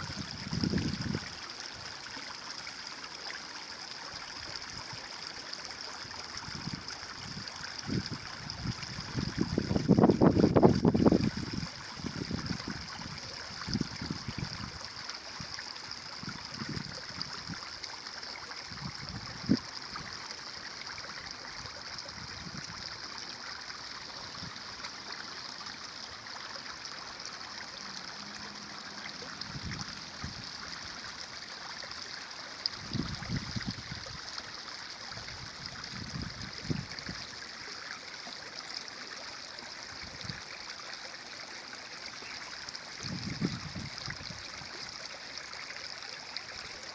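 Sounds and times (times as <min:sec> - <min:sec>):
stream running and trickling: 0:00.0 - 0:46.9.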